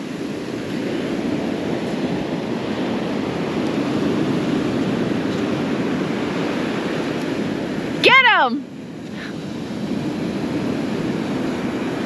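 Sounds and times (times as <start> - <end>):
surf washing onto beach: 0.0 - 12.0.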